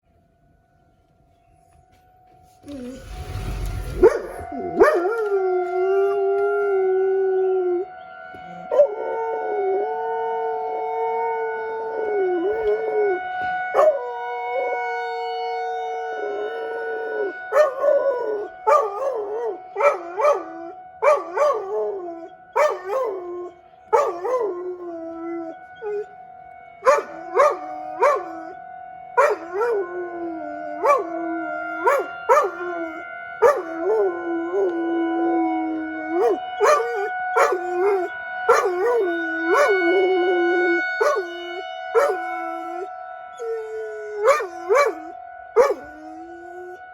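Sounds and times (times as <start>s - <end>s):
warning siren steady tone: 0.4s - 46.9s
dog howling and yowling: 2.6s - 26.1s, 26.8s - 28.6s, 29.2s - 46.9s.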